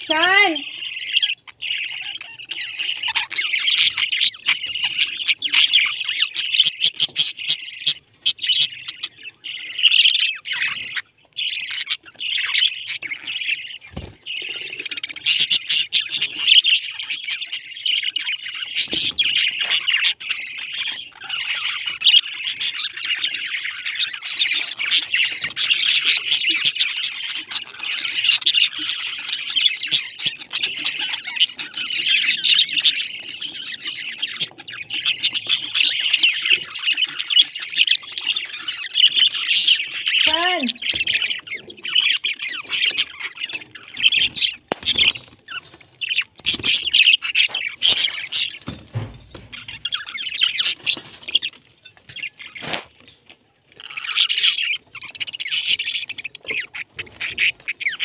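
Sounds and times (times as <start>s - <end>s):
budgerigars chattering and warbling: 0.0s - 58.0s.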